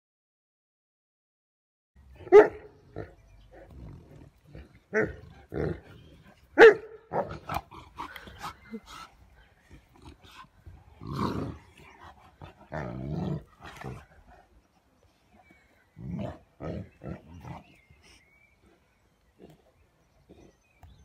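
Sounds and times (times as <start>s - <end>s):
dogs growling and grunting: 2.0s - 21.0s.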